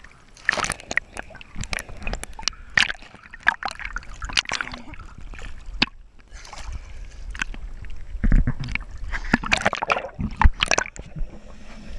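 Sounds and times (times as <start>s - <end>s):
sea water sloshing and splashing: 0.0s - 11.9s.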